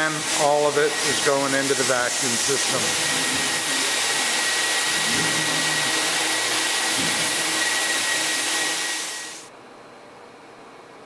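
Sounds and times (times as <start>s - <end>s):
floor buffer hiss and whine: 0.0s - 11.0s.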